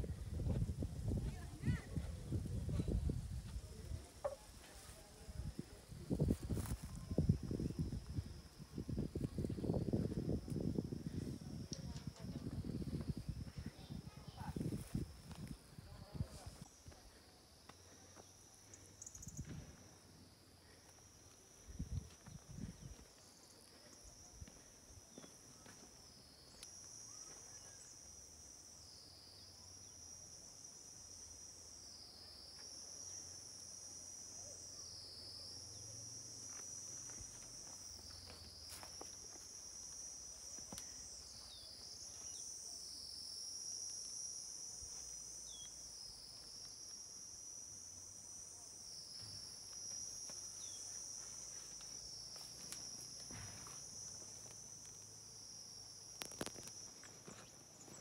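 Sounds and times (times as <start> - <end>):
insect chorus buzzing: 0.0 - 58.0.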